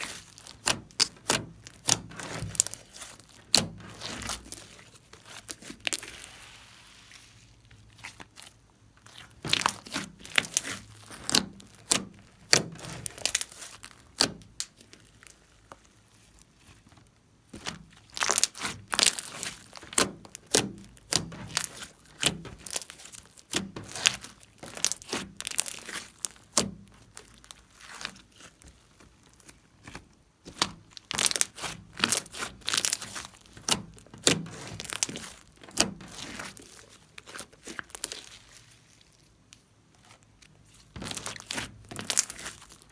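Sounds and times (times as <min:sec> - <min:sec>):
slime crackling and popping: 0:00.0 - 0:42.9.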